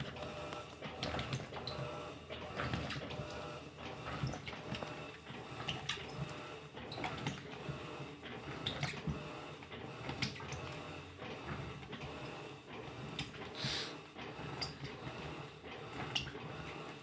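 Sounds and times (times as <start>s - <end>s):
washing machine sloshing: 0.0s - 17.0s.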